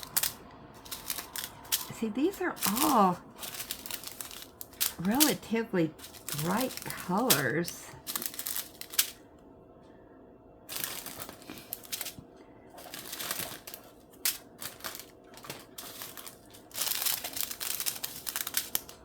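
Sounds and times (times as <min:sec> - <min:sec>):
small plastic bags crinkling: 0:00.0 - 0:09.3, 0:10.7 - 0:19.0.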